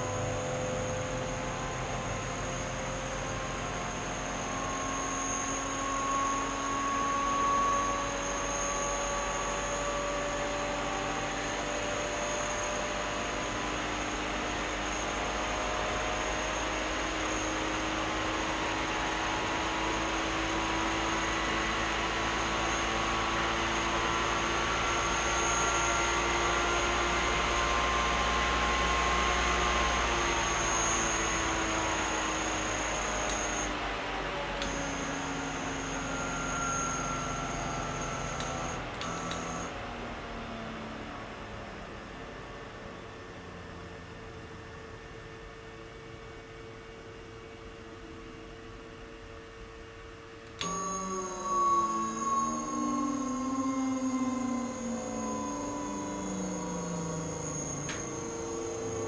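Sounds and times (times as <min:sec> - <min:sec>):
electric motor whirring hum: 0:00.0 - 0:39.7, 0:50.5 - 0:59.0.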